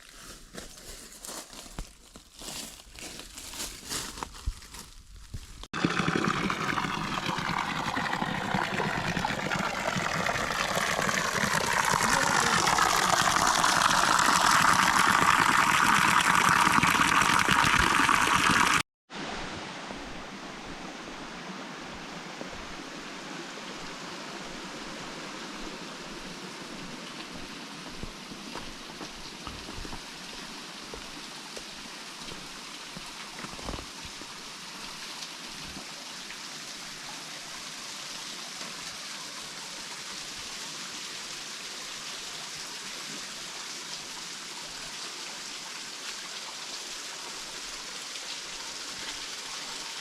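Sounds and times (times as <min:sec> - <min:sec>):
running water: 0:05.4 - 0:50.0.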